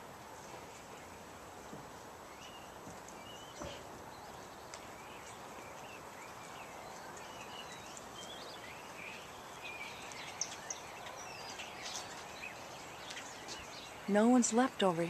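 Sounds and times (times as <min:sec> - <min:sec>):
outdoor background hiss: 0:00.0 - 0:15.0
bird chirps: 0:02.3 - 0:15.0.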